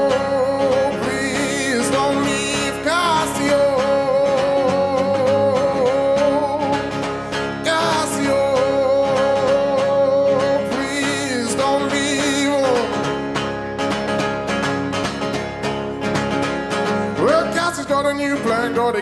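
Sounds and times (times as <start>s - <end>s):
plucked guitar over steady beat: 0.0s - 19.0s.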